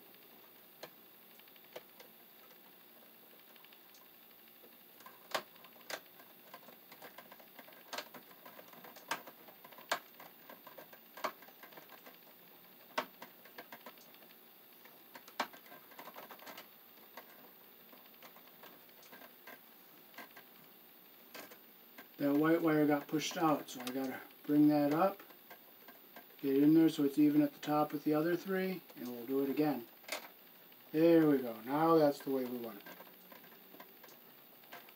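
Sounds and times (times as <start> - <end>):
copper wires clicking and clattering: 0.0 - 34.9.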